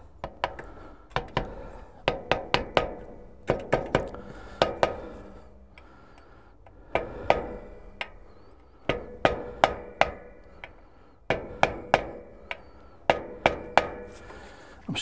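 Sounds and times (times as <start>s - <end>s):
hammer tapping on metal: 0.2s - 14.4s.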